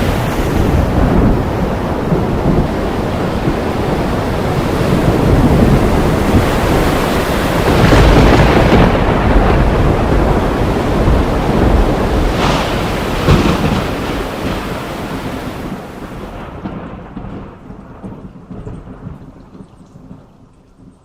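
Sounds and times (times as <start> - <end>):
thunder cracks: 0.0 - 20.9
deep thunder rumble: 0.0 - 21.0
heavy rain: 0.0 - 21.0.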